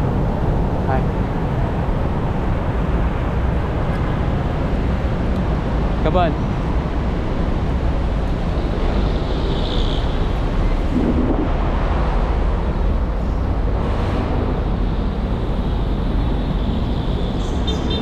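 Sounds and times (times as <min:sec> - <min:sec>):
city road traffic rumble: 0:00.0 - 0:18.0.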